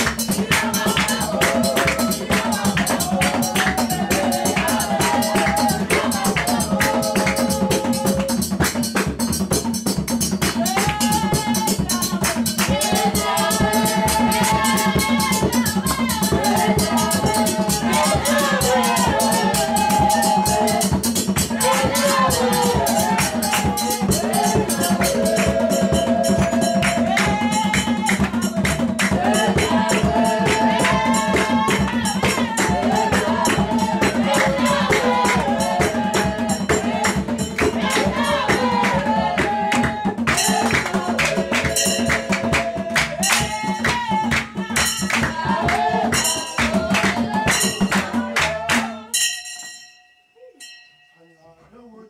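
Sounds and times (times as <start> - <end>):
congregation singing a praise song: 0.0 - 49.2
shaken hand percussion: 0.0 - 51.1.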